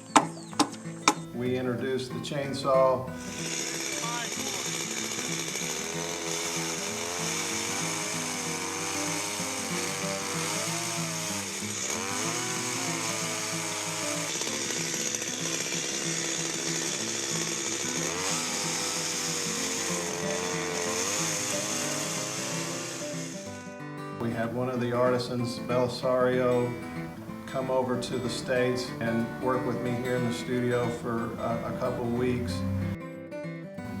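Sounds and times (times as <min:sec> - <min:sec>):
chainsaw cutting wood: 0:00.0 - 0:33.0, 0:33.8 - 0:34.0
background music: 0:00.1 - 0:34.0.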